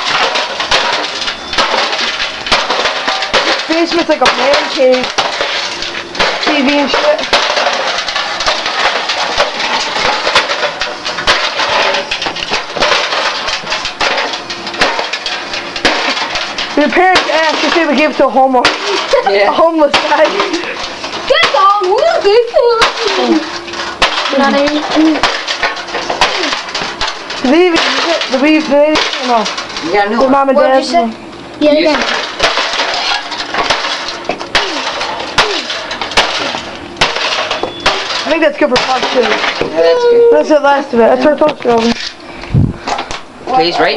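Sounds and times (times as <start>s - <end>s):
sharp smashing blows: 0.0s - 30.4s, 31.8s - 42.1s
clatter of metal and glass: 0.0s - 42.3s
glass and metal breaking: 0.0s - 42.3s.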